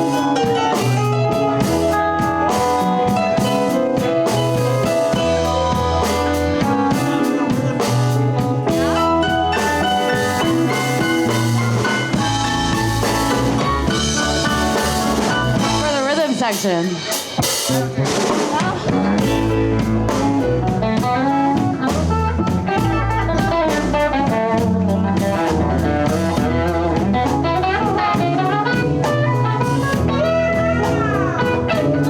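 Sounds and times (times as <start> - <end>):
bass line: 0.0 - 16.2, 17.4 - 32.0
drum kit beat: 0.0 - 32.0
guitar chords and lead notes: 0.0 - 32.0.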